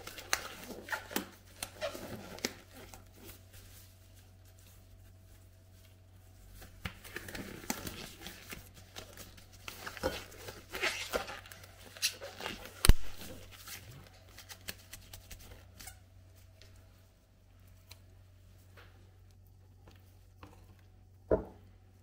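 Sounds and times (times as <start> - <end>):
rustling and crinkling: 0.0 - 21.0.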